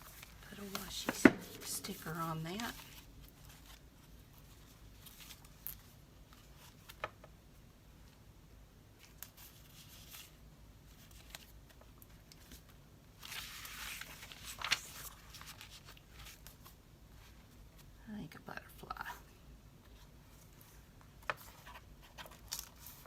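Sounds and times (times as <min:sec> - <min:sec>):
paper rustling: 0:00.0 - 0:07.1, 0:09.0 - 0:17.3, 0:19.9 - 0:23.0.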